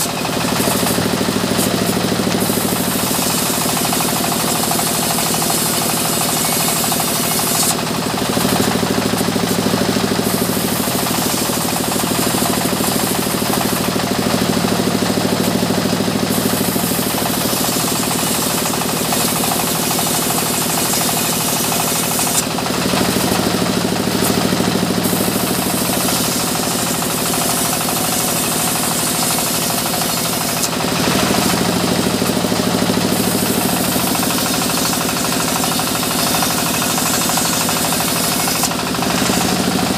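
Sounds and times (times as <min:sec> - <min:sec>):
bandsaw cutting timber: 0:00.0 - 0:39.9.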